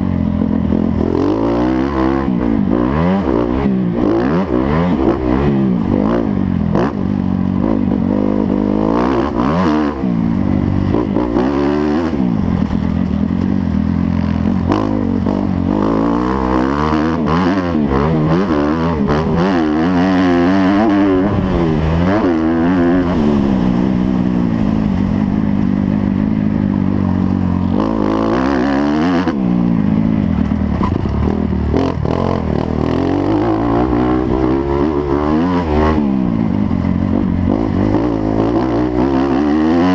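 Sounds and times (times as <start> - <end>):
motocross motorcycle engines revving: 0.0 - 39.9.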